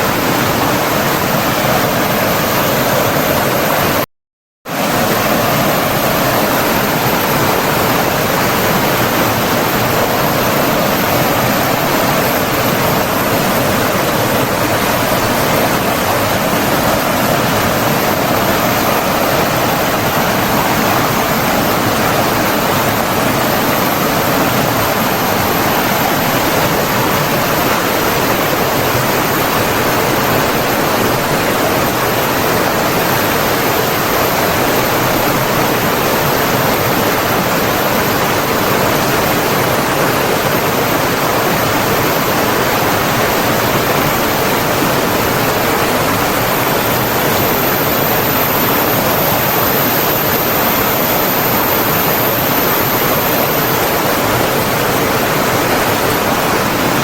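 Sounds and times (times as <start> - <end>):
water rushing: 0.0 - 4.0, 4.7 - 57.0.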